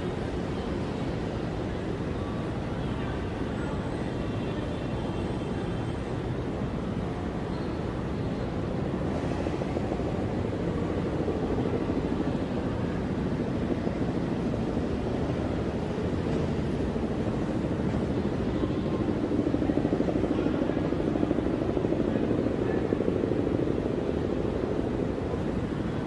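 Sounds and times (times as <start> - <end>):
rumble of city vehicles: 0.0 - 26.0.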